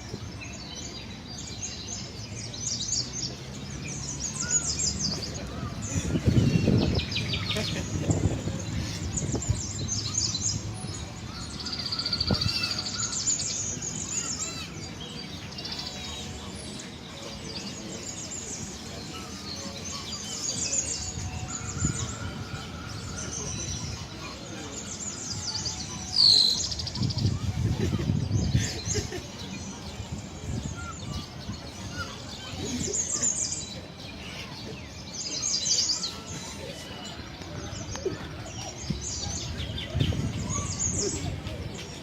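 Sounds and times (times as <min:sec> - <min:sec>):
birds chirping and trilling: 0:00.0 - 0:42.0.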